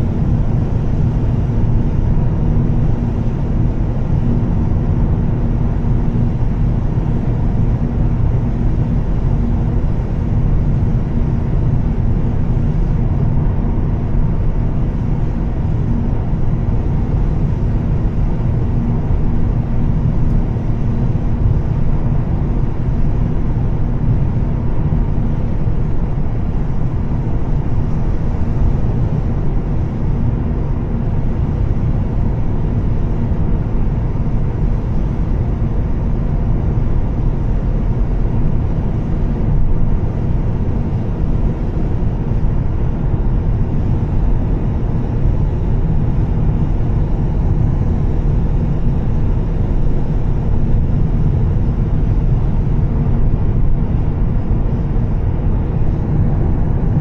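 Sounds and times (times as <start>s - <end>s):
car engine droning: 0.0s - 57.0s
road and tyre noise: 0.0s - 57.0s.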